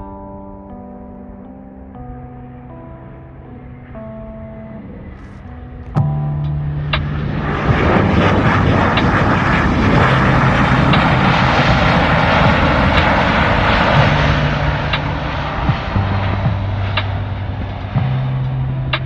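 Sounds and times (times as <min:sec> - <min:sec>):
airplane passing: 0:02.5 - 0:19.0.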